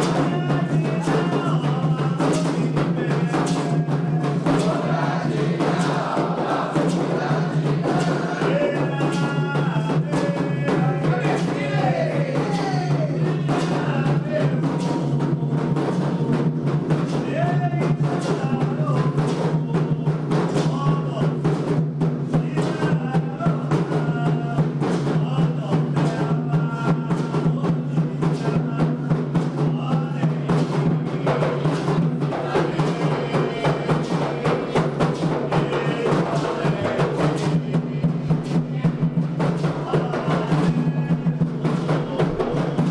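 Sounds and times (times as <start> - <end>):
hand drums fast rhythm: 0.0 - 42.9
voices singing a chant: 0.0 - 42.9.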